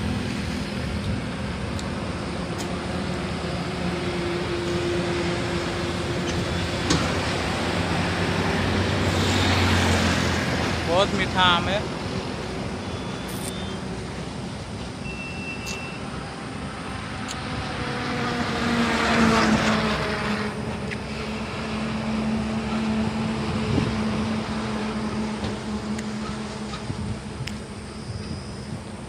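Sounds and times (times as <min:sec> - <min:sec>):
vehicle passing by: 0:00.0 - 0:14.7, 0:16.0 - 0:27.4
highway road noise: 0:00.0 - 0:29.0
low engine hum: 0:00.0 - 0:29.0.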